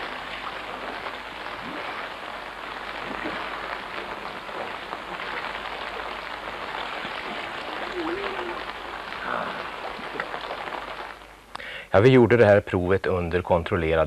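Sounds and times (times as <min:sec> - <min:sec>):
rushing water crackling: 0:00.0 - 0:11.7.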